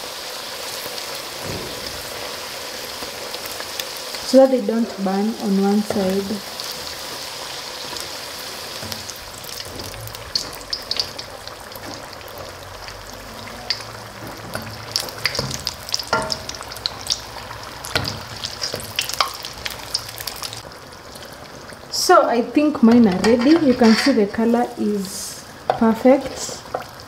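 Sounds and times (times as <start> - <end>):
food deep-frying in oil: 0.0 - 27.0.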